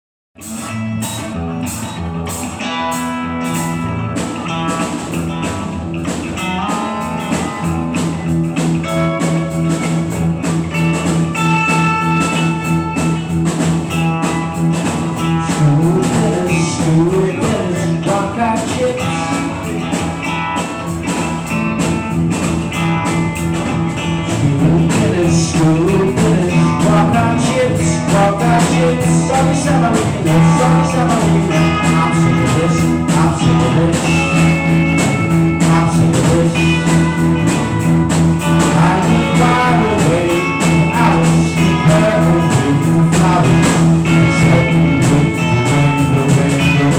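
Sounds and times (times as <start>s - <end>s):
bass guitar: 0.4s - 46.9s
drums: 0.4s - 46.9s
electric guitar: 0.4s - 46.9s.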